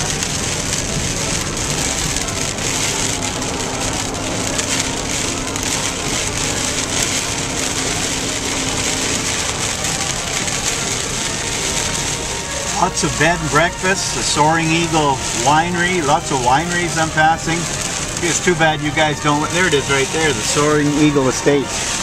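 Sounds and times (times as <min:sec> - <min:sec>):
rain spattering on car roof: 0:00.0 - 0:22.0
tyres on wet pavement: 0:00.0 - 0:22.0.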